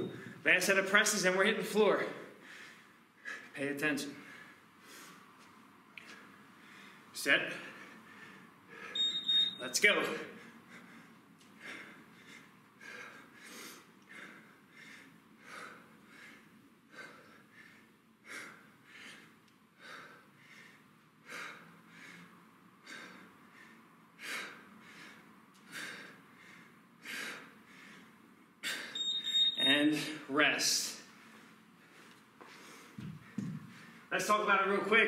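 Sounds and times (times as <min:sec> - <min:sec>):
man breathing hard: 0:02.2 - 0:05.4, 0:06.0 - 0:09.3, 0:10.2 - 0:29.1, 0:31.1 - 0:34.1.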